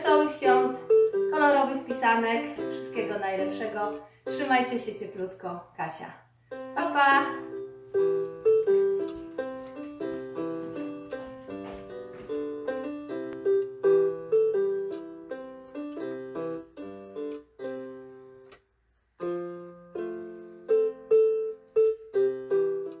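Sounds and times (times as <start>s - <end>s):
piano chords and melody: 0.0s - 5.2s, 6.5s - 23.0s.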